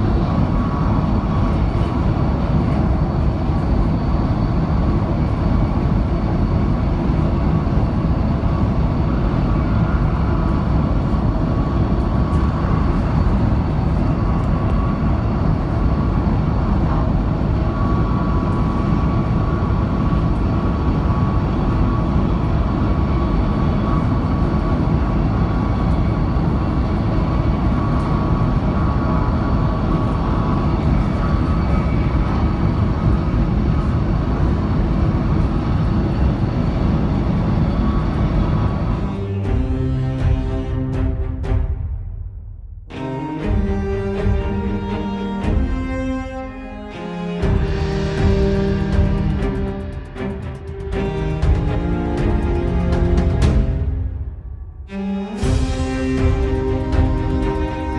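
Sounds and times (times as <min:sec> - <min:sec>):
faint whine: 0:00.0 - 0:39.8, 0:46.0 - 0:57.9
high-speed train rumble: 0:00.0 - 0:57.9.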